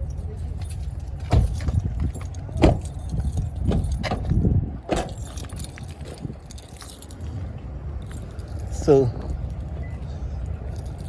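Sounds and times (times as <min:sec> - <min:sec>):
car keys jangling: 0:00.0 - 0:11.0
steady low rumble: 0:00.0 - 0:11.0.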